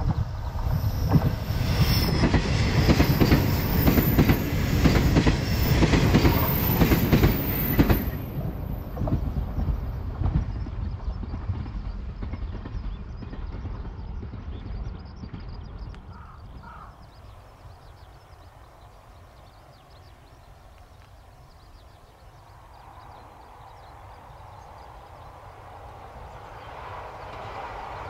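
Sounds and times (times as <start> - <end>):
electric train passing: 0.0 - 28.0.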